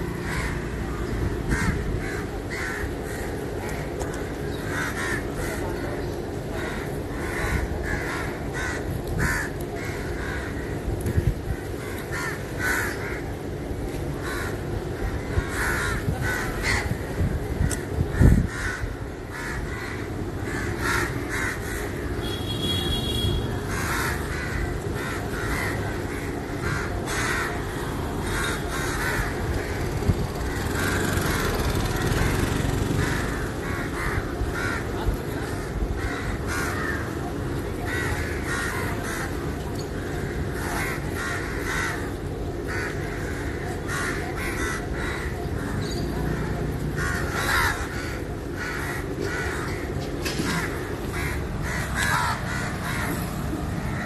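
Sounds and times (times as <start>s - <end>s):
crows cawing: 0.0s - 54.0s
street rumble: 0.0s - 54.0s.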